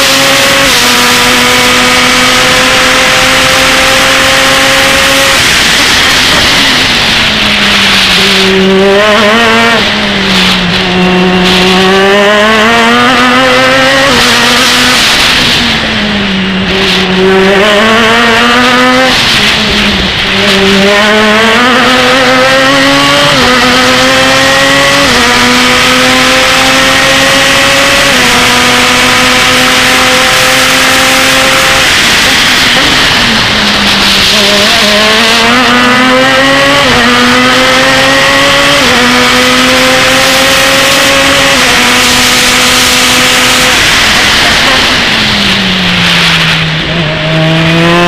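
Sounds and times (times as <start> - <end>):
race car engine revving: 0.0 - 48.0.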